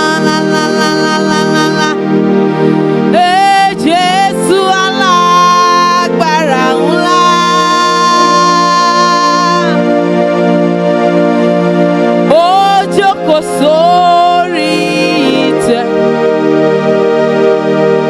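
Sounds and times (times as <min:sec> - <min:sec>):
sustained keyboard chords: 0:00.0 - 0:18.0
wordless sliding vocal melody: 0:00.0 - 0:18.0.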